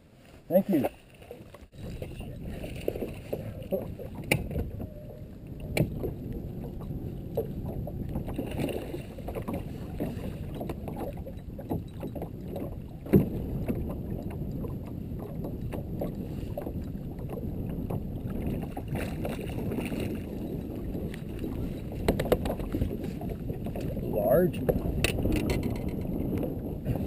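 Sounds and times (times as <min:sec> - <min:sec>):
water sloshing around boat: 0:00.0 - 0:27.0.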